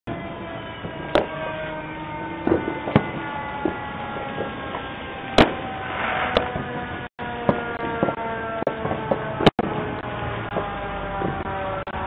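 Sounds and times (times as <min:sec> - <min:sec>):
fireworks bangs: 0:00.1 - 0:12.0.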